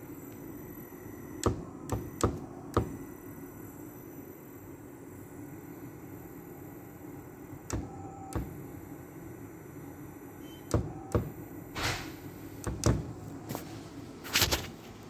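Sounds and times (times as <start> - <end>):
faint high electronic whine: 0.0 - 14.6
steady low hum: 0.0 - 15.0.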